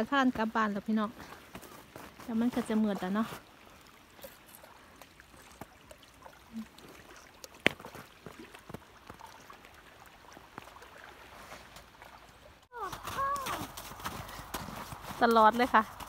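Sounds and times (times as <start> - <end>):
water lapping: 0.0 - 16.0.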